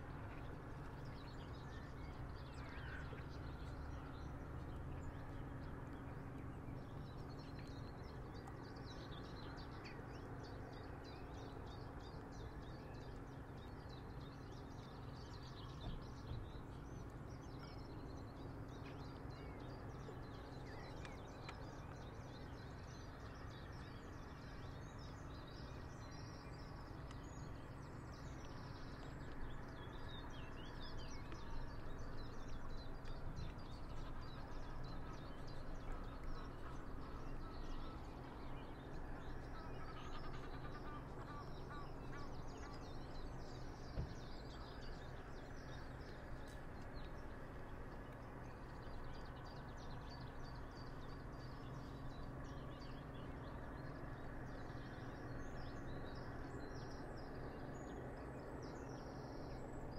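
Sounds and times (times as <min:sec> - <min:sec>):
light breeze: 0:00.0 - 0:59.9
small birds chirping: 0:00.0 - 0:59.9.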